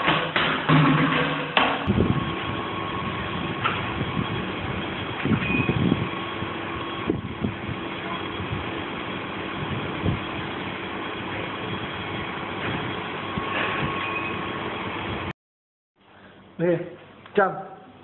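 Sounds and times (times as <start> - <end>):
mechanical hum of lift: 0.0 - 15.3.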